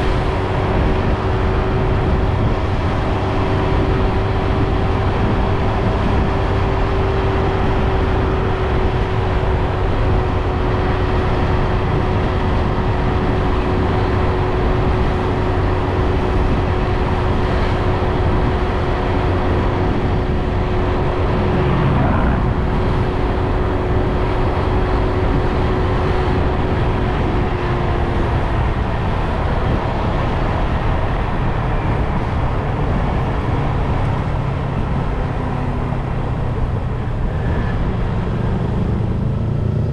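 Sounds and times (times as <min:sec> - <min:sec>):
motorbike engine rumble: 0:00.0 - 0:39.9.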